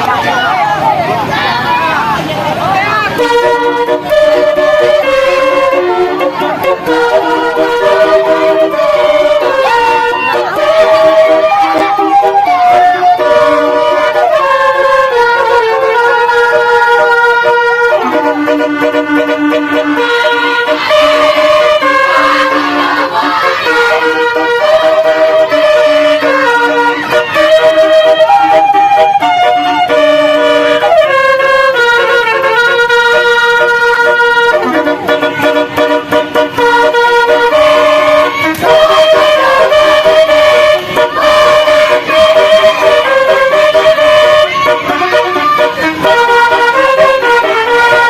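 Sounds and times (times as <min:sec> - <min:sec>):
musical bus air horns: 0:00.0 - 0:48.0.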